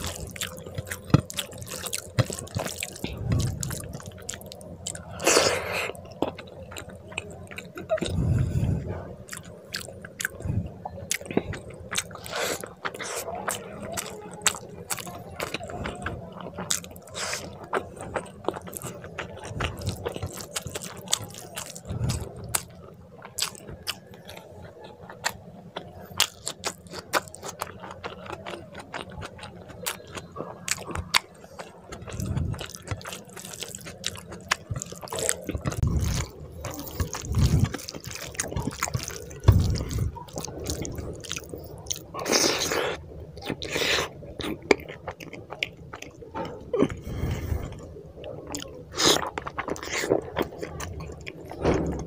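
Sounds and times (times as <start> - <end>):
wet chewing: 0.0 - 52.0.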